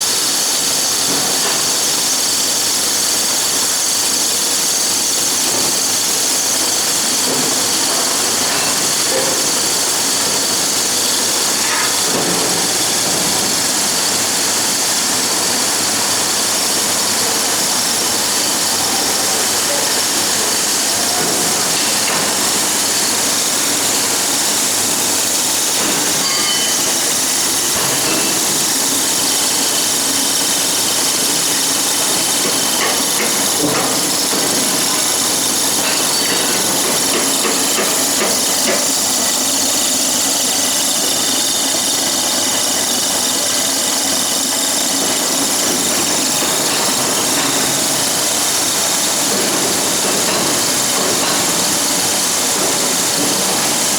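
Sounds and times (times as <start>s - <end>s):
machine hiss and drone: 0.0s - 53.9s.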